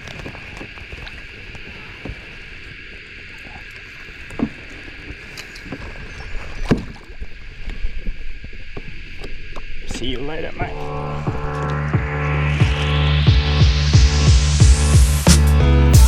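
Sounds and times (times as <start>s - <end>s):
water splashing: 0.0s - 13.9s
insects droning: 0.0s - 15.9s.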